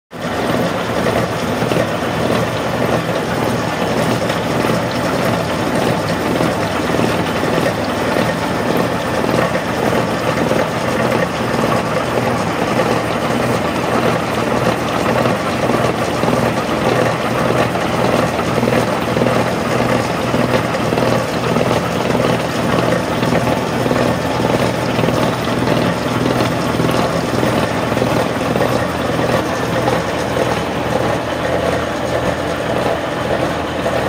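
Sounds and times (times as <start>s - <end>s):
machine whirring: 0.2s - 34.0s.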